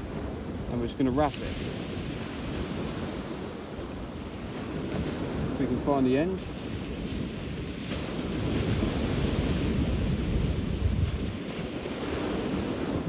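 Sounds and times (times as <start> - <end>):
waves on shingle beach: 0.0 - 13.0
wind buffeting microphone: 0.0 - 13.0.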